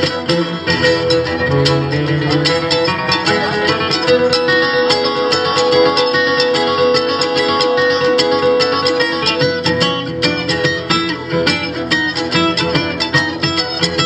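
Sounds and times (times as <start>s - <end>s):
acoustic string band playing: 0.0s - 14.0s
rapid picked guitar: 0.0s - 14.0s.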